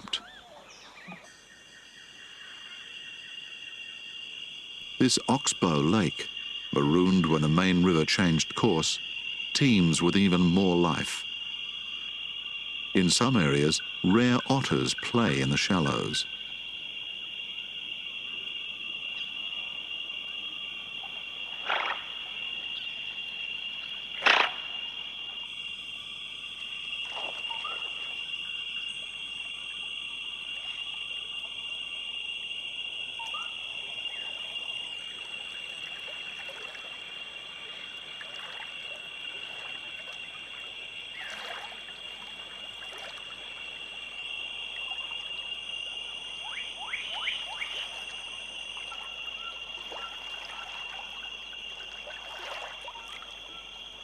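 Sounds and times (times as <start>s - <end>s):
frogs and insects chorus: 0.0s - 54.0s.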